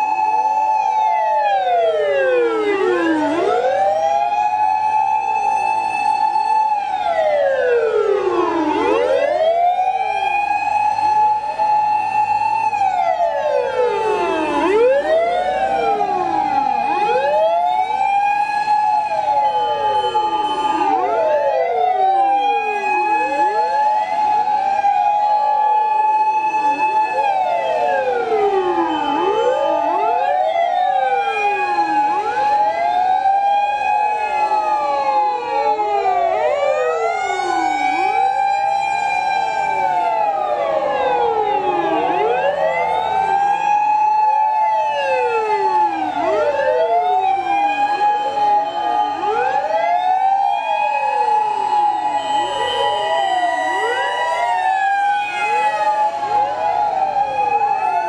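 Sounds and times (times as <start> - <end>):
fire truck sirens wailing: 0.0 - 58.0.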